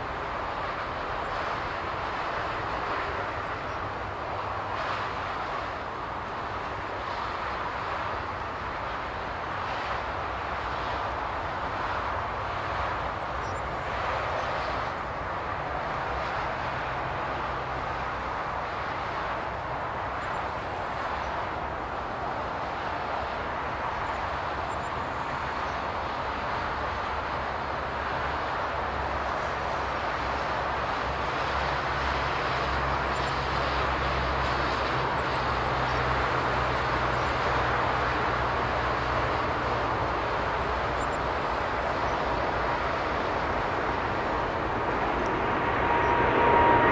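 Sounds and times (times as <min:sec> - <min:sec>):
distant jet engines at takeoff: 0:00.0 - 0:46.9.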